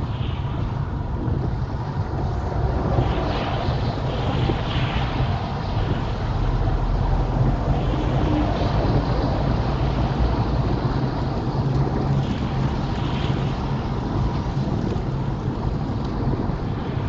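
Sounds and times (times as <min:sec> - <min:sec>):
rain hissing on windscreen: 0:00.0 - 0:17.0
tyres and engine rumble: 0:00.0 - 0:17.0.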